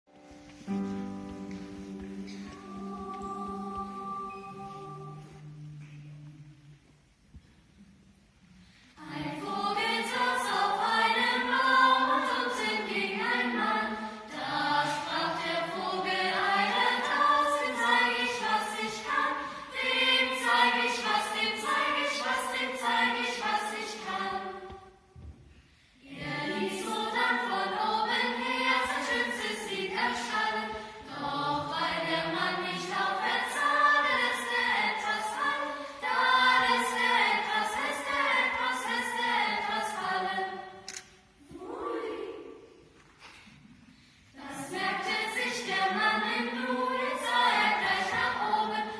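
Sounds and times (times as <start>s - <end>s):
youth choir singing in unison: 1.5s - 6.8s, 9.0s - 25.2s, 26.0s - 43.6s, 44.2s - 48.9s.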